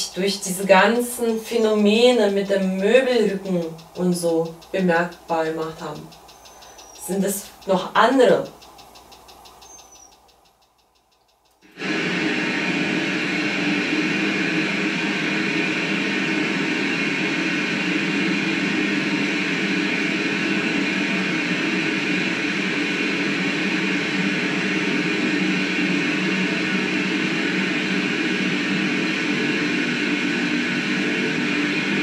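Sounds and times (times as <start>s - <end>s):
dense static hiss: 0.0s - 32.0s.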